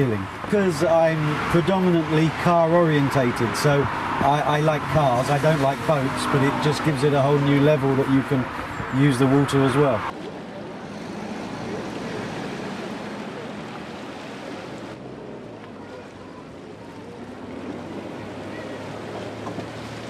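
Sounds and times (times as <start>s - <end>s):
car engines humming: 0.0s - 20.0s
water splashing and churning: 0.0s - 20.0s.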